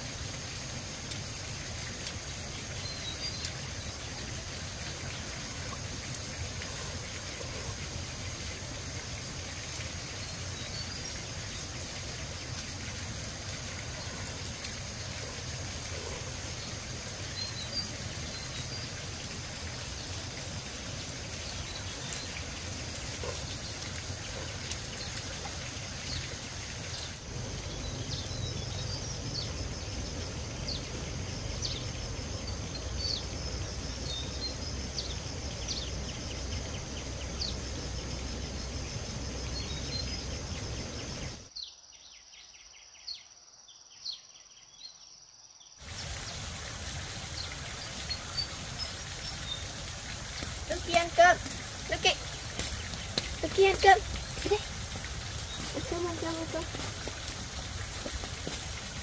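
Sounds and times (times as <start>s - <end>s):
insect drone: 0.0s - 59.0s.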